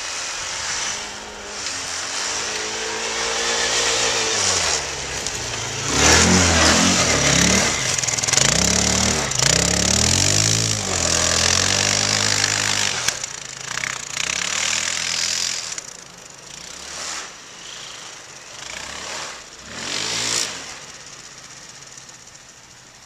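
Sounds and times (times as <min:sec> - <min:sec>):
quad engine revving in snow: 0:00.0 - 0:23.0.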